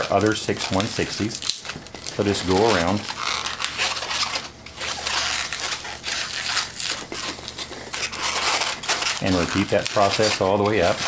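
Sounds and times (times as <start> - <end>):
balloons rubbing and crackling: 0.0 - 11.0.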